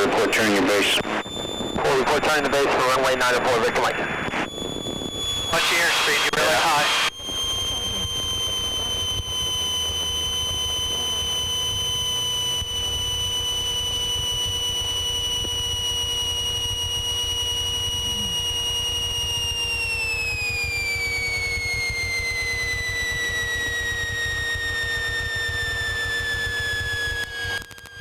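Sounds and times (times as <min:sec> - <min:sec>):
aircraft engine hum: 0:00.0 - 0:28.0.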